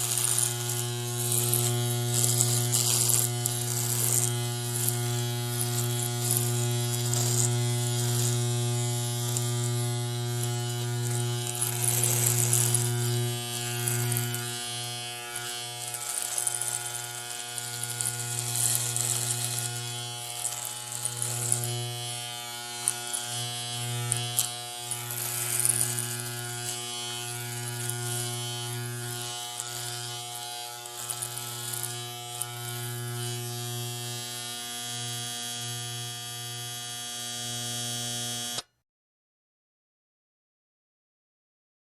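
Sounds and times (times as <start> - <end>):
electric hair clipper buzzing: 0.0 - 38.7.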